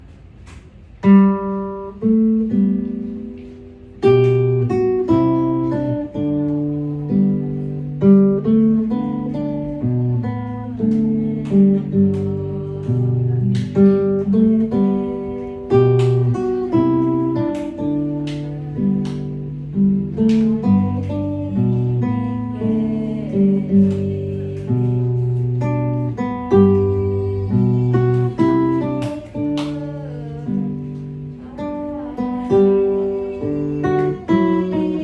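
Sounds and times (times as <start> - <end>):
fingerpicked acoustic guitar: 0.0 - 35.0.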